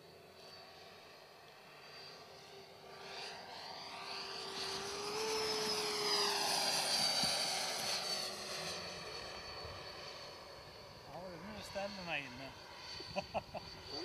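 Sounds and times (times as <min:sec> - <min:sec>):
model jet engine whine: 0:00.0 - 0:14.0.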